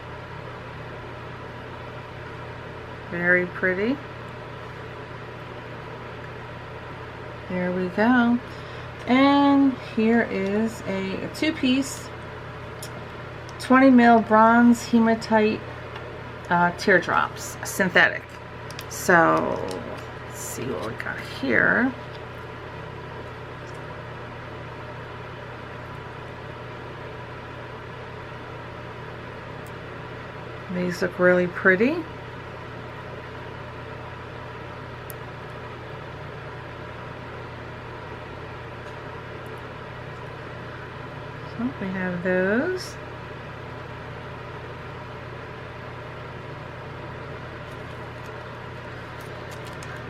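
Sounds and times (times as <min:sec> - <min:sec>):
low hum and hiss: 0:00.0 - 0:50.0.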